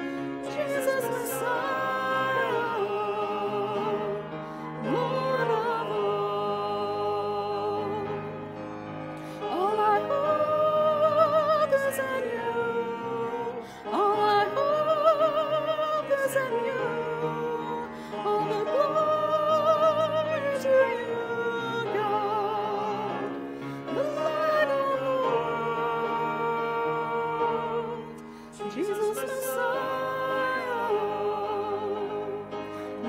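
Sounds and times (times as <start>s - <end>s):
person singing a hymn: 0.0s - 33.0s.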